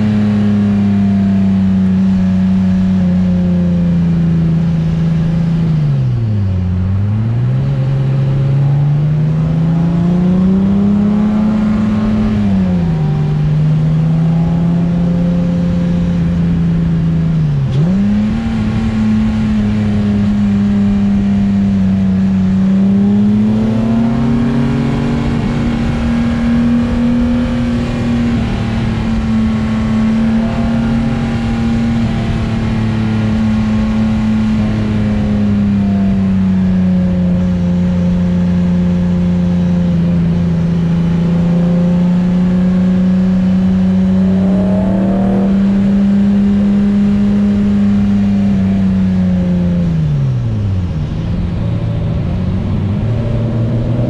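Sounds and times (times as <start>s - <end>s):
car engine cruising drone: 0.0s - 54.0s.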